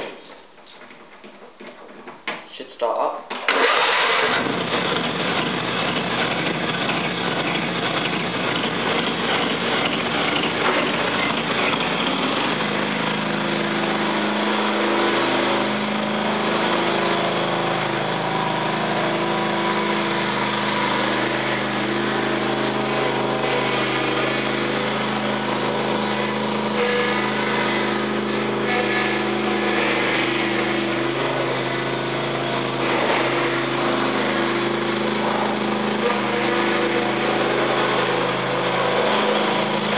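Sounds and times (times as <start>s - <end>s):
lawn tractor engine running: 3.3s - 39.9s.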